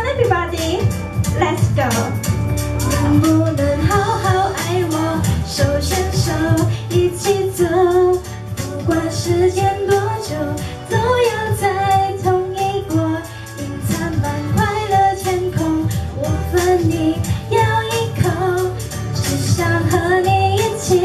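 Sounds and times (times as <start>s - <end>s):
pop backing music with beat: 0.0s - 21.0s
woman singing into a microphone: 2.8s - 21.0s.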